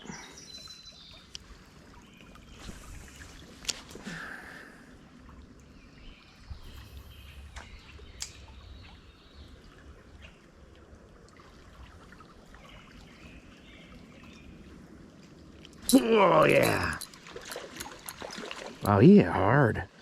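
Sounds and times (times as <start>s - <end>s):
creek water trickling: 0.0s - 20.0s.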